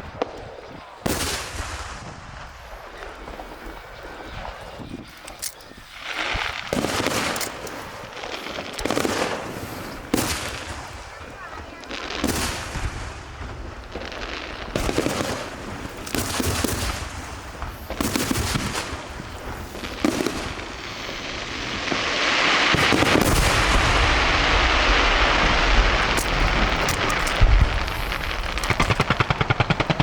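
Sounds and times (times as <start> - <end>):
firework bangs: 0.0 - 5.2, 5.8 - 30.0
fireworks crackling: 0.0 - 30.0.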